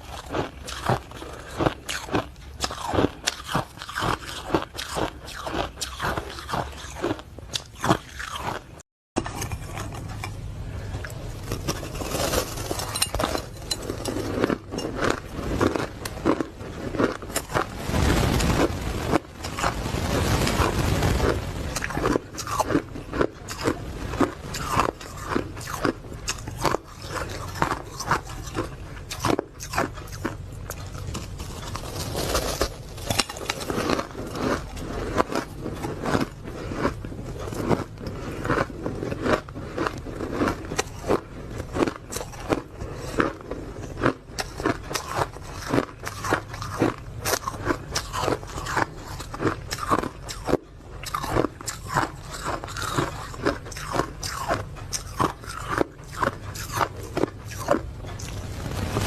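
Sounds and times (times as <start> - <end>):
ice being chewed: 0.0 - 17.8, 18.6 - 59.0.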